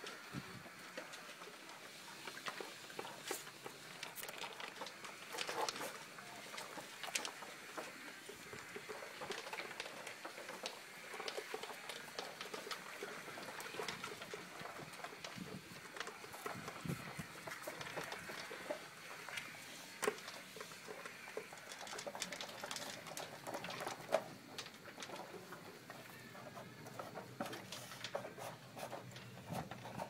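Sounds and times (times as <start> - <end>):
dogs crunching kibble: 0.0 - 30.0
pellets rattling against plastic: 0.0 - 30.0.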